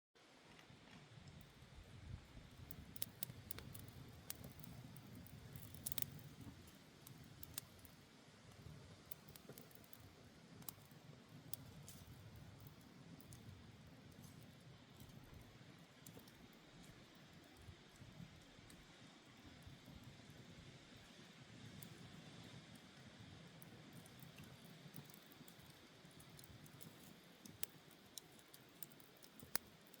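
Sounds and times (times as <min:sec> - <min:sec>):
campfire crackling: 0:00.5 - 0:30.0
fire popping and snapping: 0:01.2 - 0:18.9, 0:23.4 - 0:30.0.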